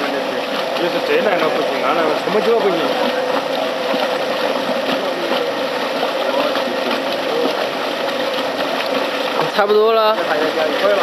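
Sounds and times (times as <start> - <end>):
spraying machine hum: 0.0 - 11.0.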